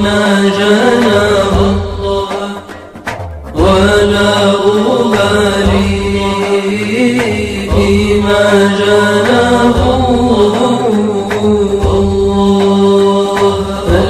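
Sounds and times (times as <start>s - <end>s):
person chanting melismatically: 0.0s - 2.8s, 3.5s - 14.0s.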